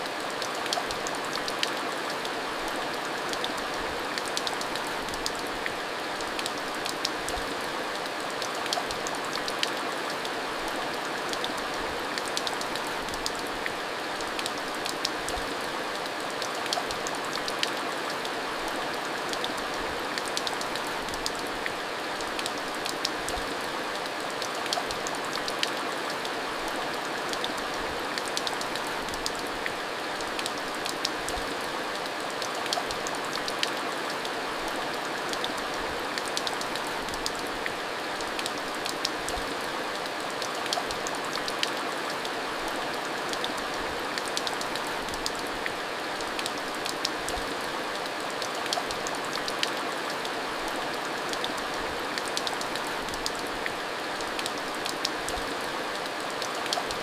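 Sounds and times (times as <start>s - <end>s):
heavy rain on a hard surface: 0.0s - 57.0s.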